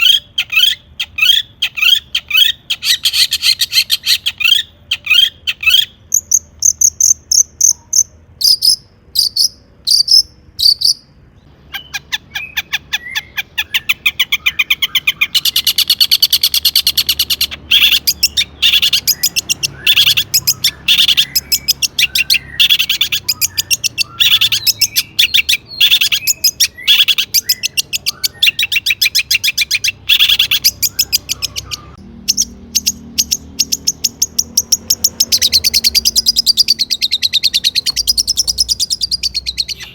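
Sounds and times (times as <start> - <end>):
shrike singing: 0.0 - 39.9.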